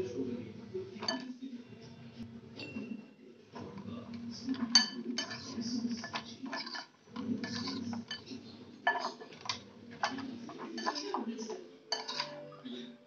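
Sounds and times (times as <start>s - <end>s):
utensils clinking against dishes: 1.0s - 1.3s, 2.6s - 13.0s.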